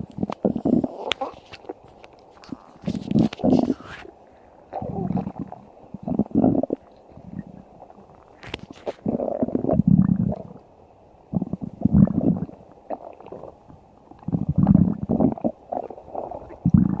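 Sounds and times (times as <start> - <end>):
stomach growling: 0.0 - 10.7, 11.3 - 17.0.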